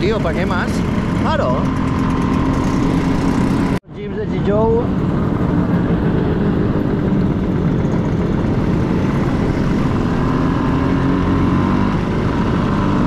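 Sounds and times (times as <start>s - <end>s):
scooter engine running: 0.0s - 3.8s, 4.6s - 13.0s.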